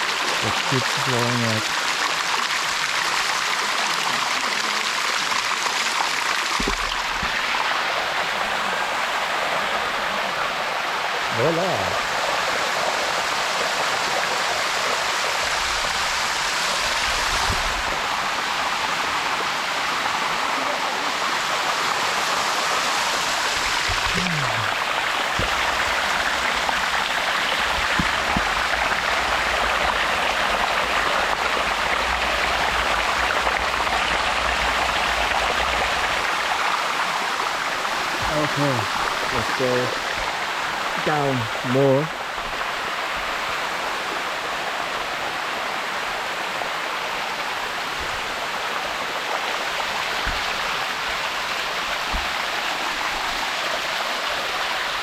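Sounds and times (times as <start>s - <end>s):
waterfall rushing over rock: 0.0s - 55.0s.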